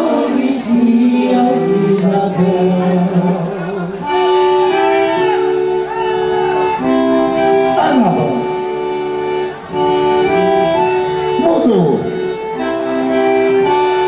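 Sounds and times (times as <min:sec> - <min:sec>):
accordion-led folk dance music: 0:00.0 - 0:14.0.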